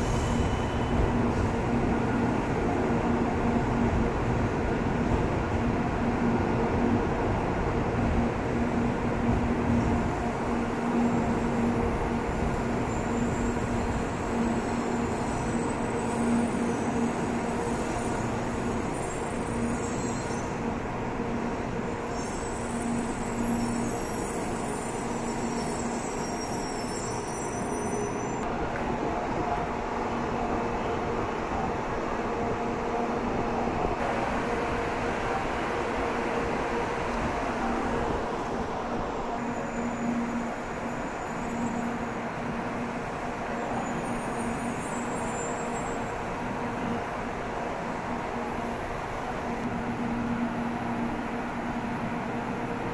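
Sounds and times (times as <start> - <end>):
faint train hum: 0.0 - 52.9
train rolling rumble: 0.0 - 52.9.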